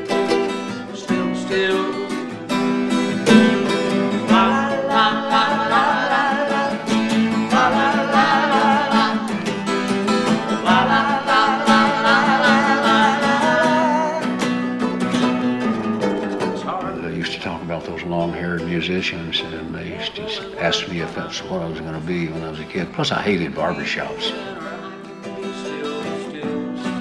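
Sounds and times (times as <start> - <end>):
acoustic guitars strumming: 0.0 - 27.0
person singing: 0.0 - 27.0
wavering melodic guitar lead: 0.0 - 27.0.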